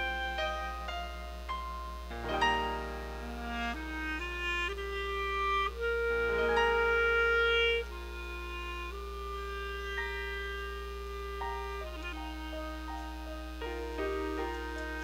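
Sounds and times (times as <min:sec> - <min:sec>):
clarinet playing slow melody: 0:00.0 - 0:15.0.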